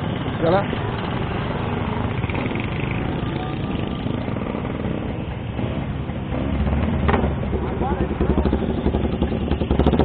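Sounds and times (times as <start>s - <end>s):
scooter engines running: 0.0s - 10.0s.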